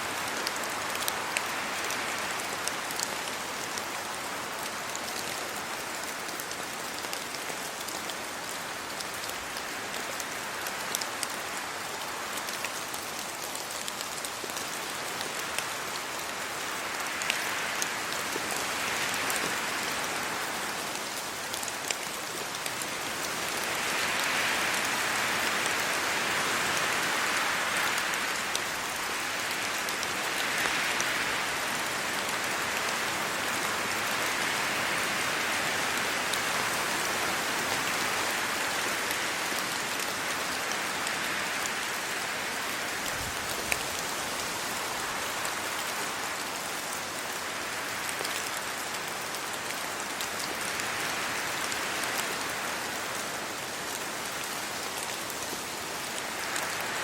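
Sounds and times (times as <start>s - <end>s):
rain falling on trees and road: 0.0s - 57.0s.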